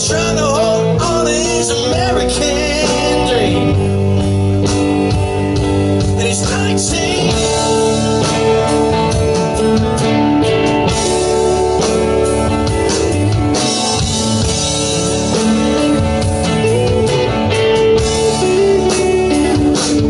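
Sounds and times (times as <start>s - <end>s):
live blues-rock band playing: 0.0s - 20.0s.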